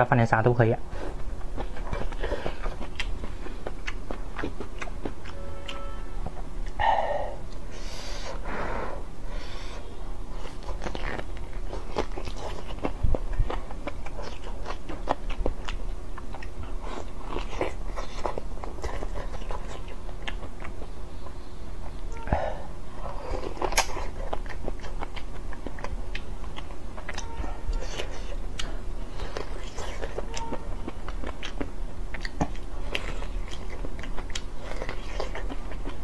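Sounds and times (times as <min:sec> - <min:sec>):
biting and chewing meat: 0:00.9 - 0:06.0, 0:10.2 - 0:22.2, 0:22.9 - 0:36.0.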